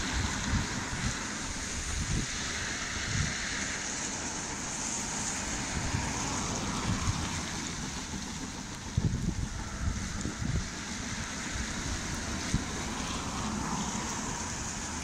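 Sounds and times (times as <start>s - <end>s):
rushing wind and rain: 0.0s - 15.0s
wind buffeting microphone: 0.0s - 15.0s.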